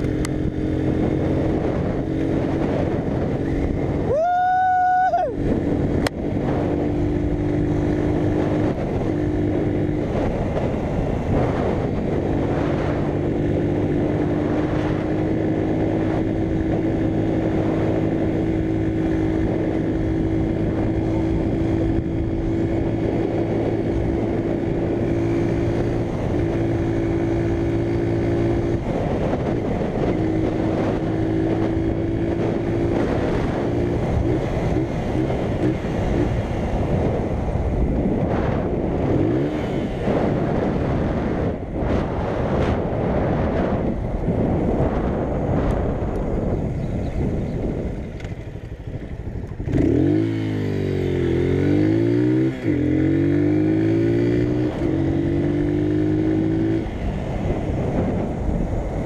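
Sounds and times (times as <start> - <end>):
motorcycle engine running: 0.0 - 59.0
wind rushing: 0.0 - 59.0.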